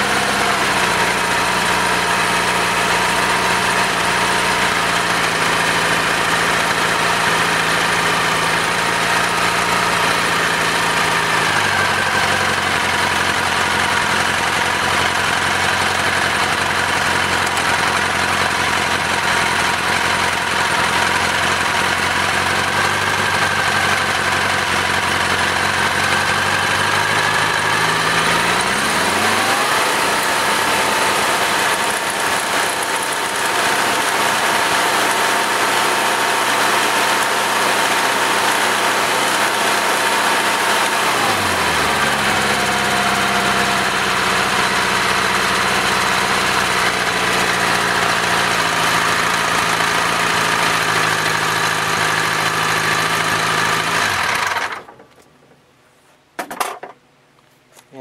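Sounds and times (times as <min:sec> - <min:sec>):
air-cooled engine idling: 0:00.0 - 0:54.9.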